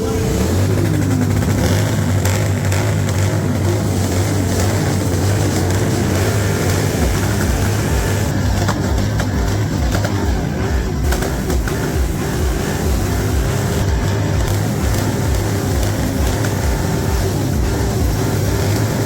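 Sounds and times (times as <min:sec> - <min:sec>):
motorcycle engine running: 0:00.0 - 0:19.0
outdoor din: 0:00.0 - 0:19.0.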